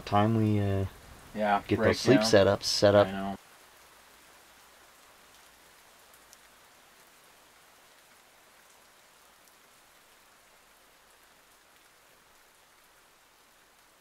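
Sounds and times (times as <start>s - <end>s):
faint rain hiss: 0.0s - 14.0s.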